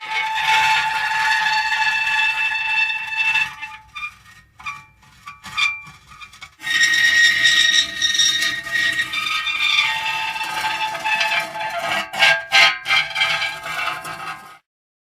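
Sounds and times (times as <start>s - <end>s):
metal squealing: 0.0s - 14.6s.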